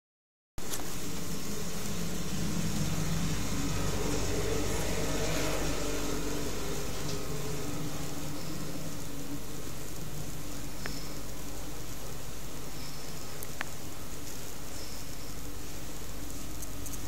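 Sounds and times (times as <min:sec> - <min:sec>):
steady hum: 0:00.6 - 0:17.0.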